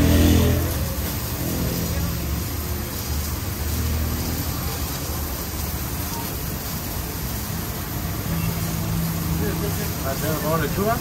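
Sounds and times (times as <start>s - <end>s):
food sizzling on a grill: 0.0s - 11.0s
low traffic rumble: 0.0s - 11.0s.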